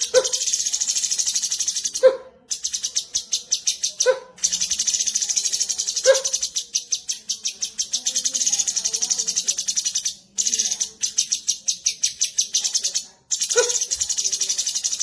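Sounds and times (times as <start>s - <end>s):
songbird chattering trill: 0.0s - 15.0s.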